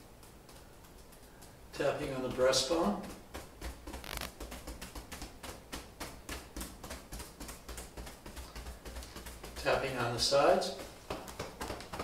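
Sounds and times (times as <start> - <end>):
fingertips tapping on chest: 0.0 - 12.0.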